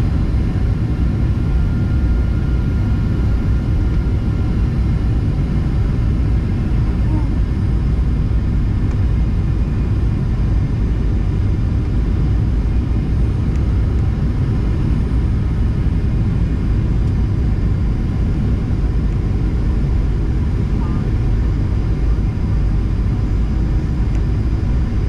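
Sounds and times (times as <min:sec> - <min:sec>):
airplane cabin engine noise: 0:00.0 - 0:25.0.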